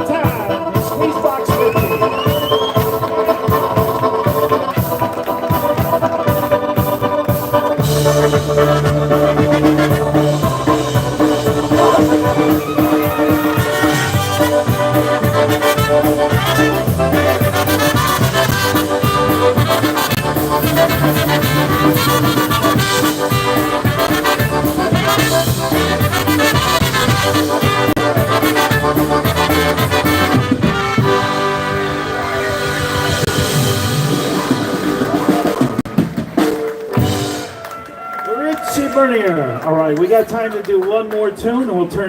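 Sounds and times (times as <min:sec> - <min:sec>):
brass-led polka band playing: 0:00.0 - 0:40.7.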